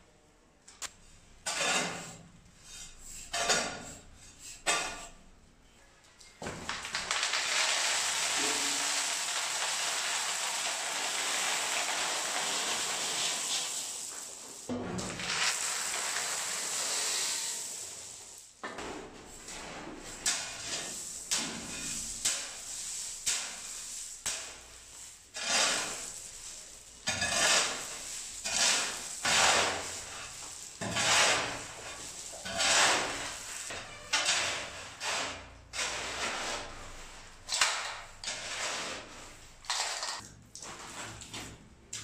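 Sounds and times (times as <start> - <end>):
concrete mixed by hand: 6.4 - 42.0.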